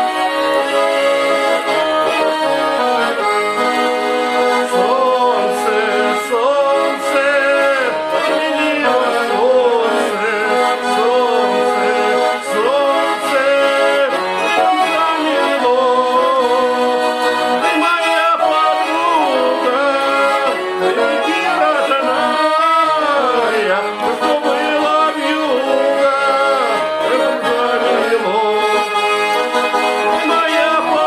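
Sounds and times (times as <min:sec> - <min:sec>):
accordion music: 0:00.0 - 0:31.0.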